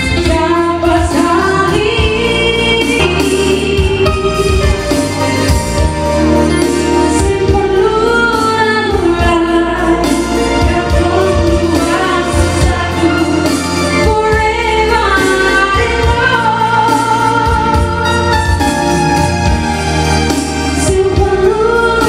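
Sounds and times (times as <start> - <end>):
woman singing: 0.0 - 5.1, 6.9 - 18.6, 20.8 - 22.0
live band with bass and drums: 0.0 - 22.0.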